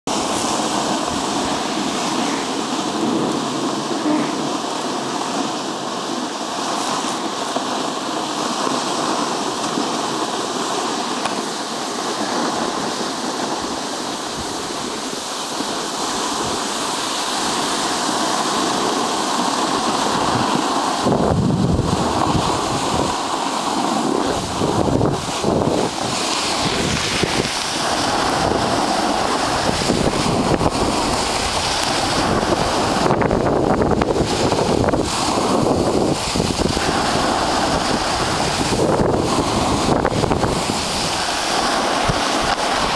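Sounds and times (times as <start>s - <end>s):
wind buffeting microphone: 0.1s - 42.9s.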